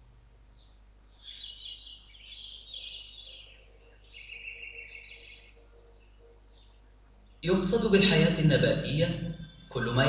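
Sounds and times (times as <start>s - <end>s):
bird chirps and trills: 0.5s - 10.0s.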